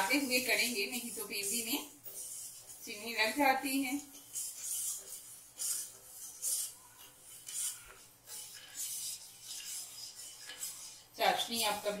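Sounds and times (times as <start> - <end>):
spoon scraping sugar in steel pot: 0.0 - 12.0.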